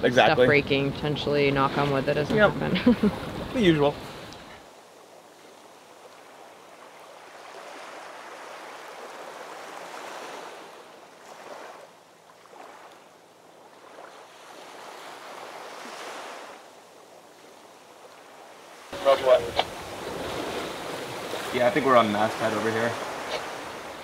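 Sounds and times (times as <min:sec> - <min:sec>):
water rushing along hull: 0:00.0 - 0:24.0.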